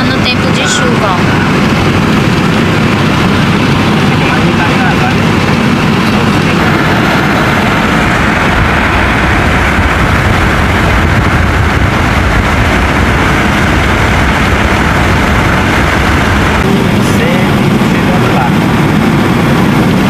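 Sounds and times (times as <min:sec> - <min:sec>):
car engine running: 0:00.0 - 0:20.0
wind and road noise: 0:00.0 - 0:20.0.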